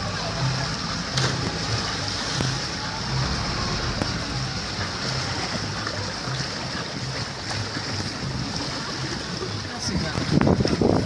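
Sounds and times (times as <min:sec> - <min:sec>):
boat engine humming: 0:00.0 - 0:09.8
water rushing past boat hull: 0:00.8 - 0:11.0.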